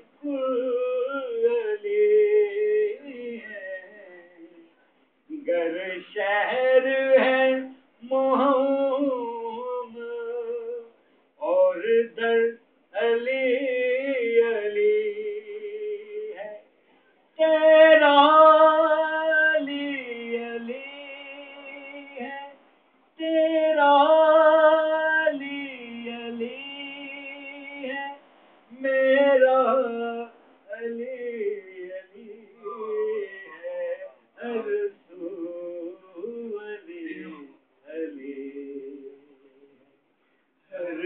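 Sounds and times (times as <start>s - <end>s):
man singing unaccompanied: 0.0s - 40.0s, 40.7s - 41.0s.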